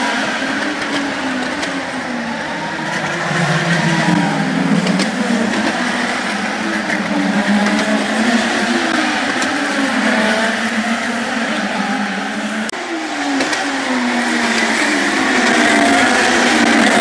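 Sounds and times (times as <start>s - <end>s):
drone of cars on track: 0.0s - 17.0s
race cars passing at speed: 0.0s - 17.0s.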